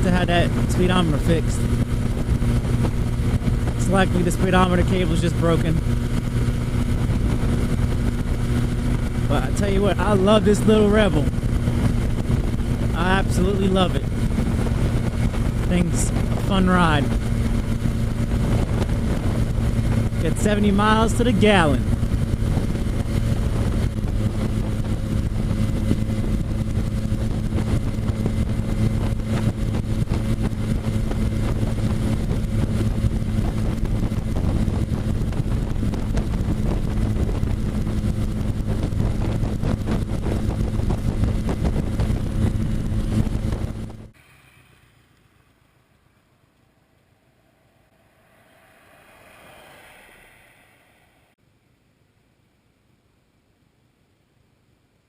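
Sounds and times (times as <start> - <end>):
motorcycle engine running: 0.0 - 44.2
wind buffeting microphone: 0.0 - 44.2.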